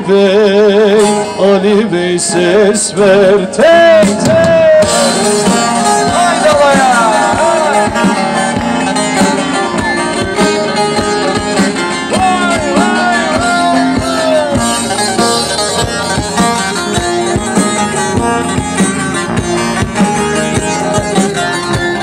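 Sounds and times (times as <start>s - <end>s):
plucked string melody: 0.0s - 22.0s
steady drumbeat: 3.7s - 22.0s.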